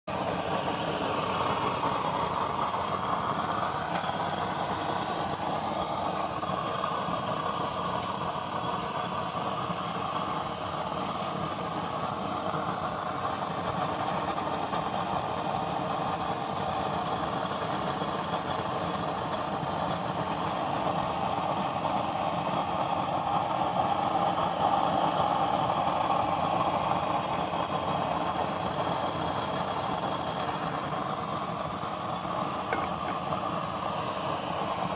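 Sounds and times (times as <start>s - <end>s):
stove burner rushing: 0.1s - 34.9s.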